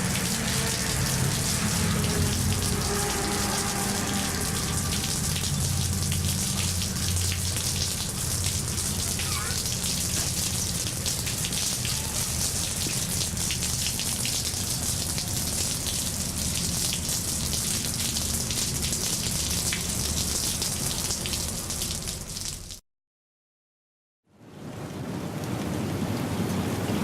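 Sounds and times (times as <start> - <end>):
steady rain falling: 0.0 - 22.8, 24.5 - 27.0.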